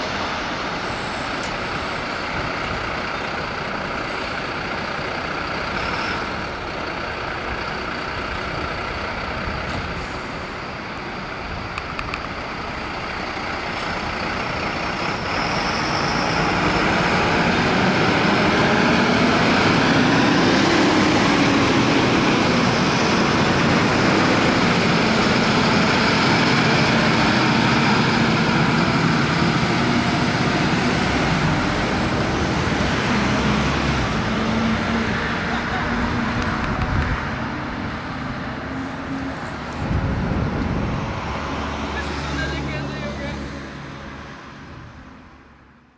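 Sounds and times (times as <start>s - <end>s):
fire truck diesel engines: 0.0s - 45.9s.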